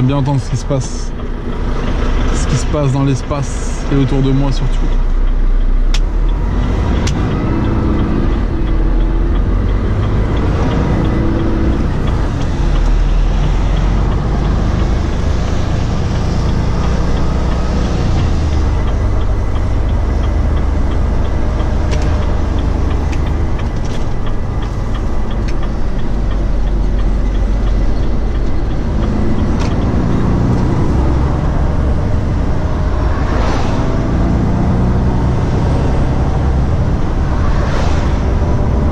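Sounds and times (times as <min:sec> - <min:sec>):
diesel truck engine running: 0:00.0 - 0:38.9
faint regular ticking: 0:00.0 - 0:38.9
tyre and road noise: 0:00.0 - 0:38.9.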